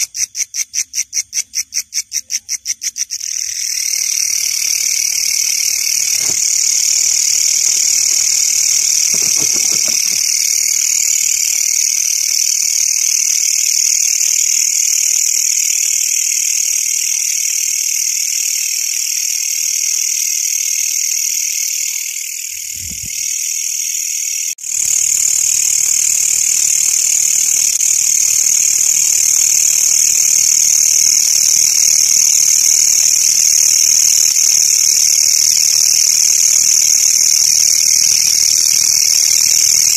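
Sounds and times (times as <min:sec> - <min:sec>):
insects buzzing trill: 0:00.0 - 0:39.9.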